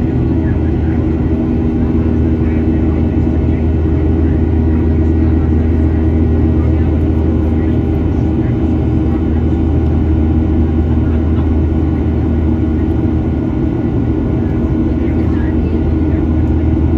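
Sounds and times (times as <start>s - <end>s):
airplane cabin engine drone: 0.0s - 16.9s.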